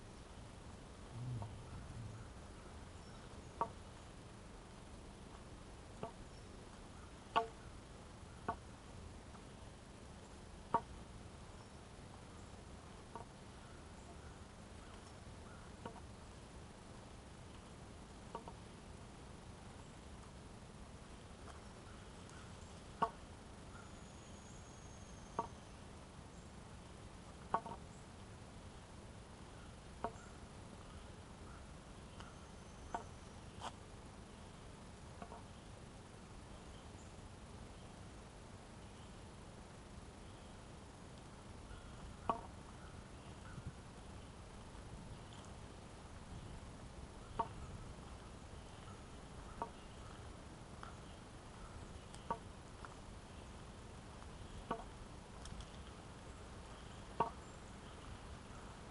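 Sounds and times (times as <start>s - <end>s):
faint background noise: 0.0s - 58.9s.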